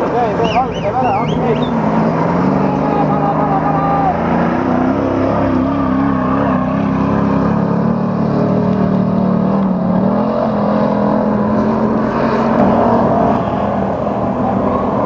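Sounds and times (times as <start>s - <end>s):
racing engine running hard: 0.0s - 15.0s.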